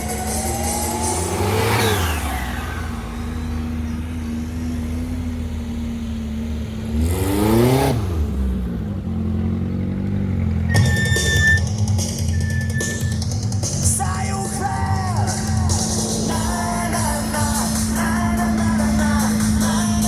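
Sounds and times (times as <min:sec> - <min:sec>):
vehicle engine running and revving: 0:00.0 - 0:20.0.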